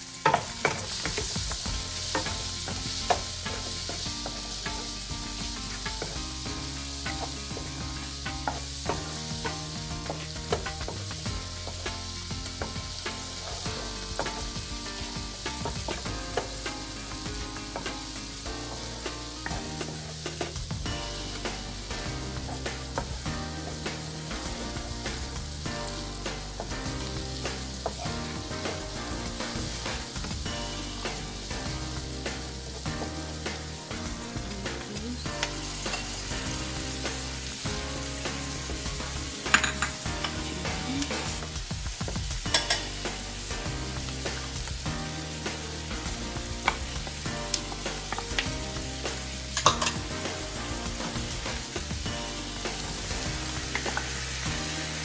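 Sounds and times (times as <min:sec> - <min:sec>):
onion sizzling in hot oil: 0:00.0 - 0:55.0
wooden spatula scraping wok: 0:00.0 - 0:55.0.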